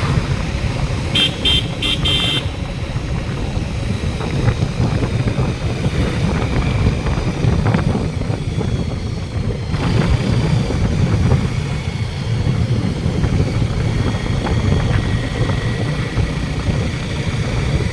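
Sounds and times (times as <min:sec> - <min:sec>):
motorcycle engine and road rumble: 0:00.0 - 0:17.9
wind buffeting microphone: 0:00.0 - 0:17.9.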